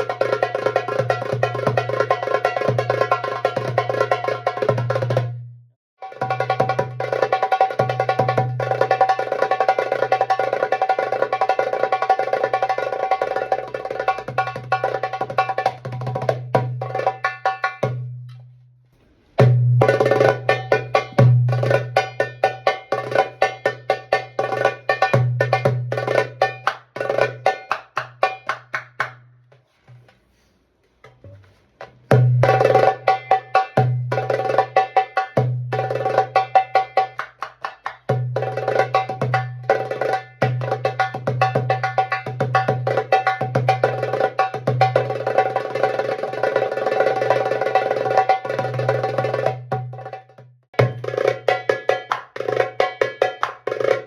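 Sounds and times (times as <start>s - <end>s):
goblet drum played fast: 0.0s - 18.2s, 19.4s - 29.2s, 32.1s - 54.0s.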